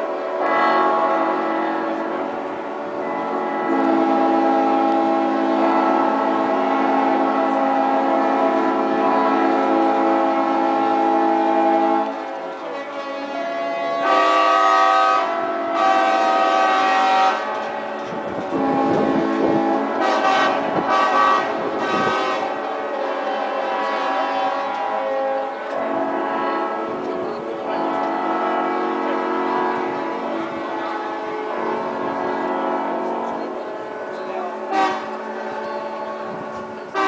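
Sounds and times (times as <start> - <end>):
boat horns sounding: 0.0 - 37.0.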